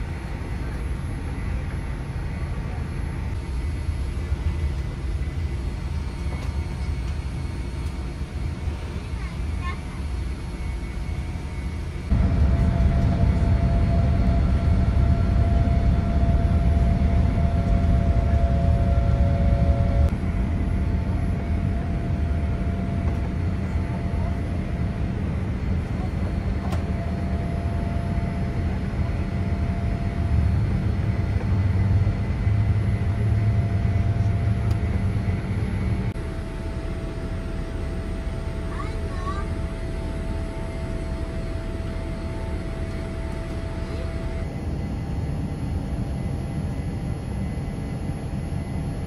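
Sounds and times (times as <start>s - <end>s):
jet engine rumble with whine: 0.0s - 49.0s.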